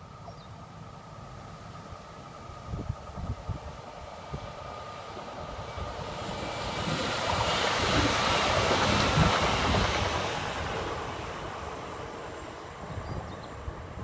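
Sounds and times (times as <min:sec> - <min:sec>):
rushing noise of passing train: 0:00.0 - 0:14.0
train wheels rumbling on rails: 0:00.0 - 0:14.0.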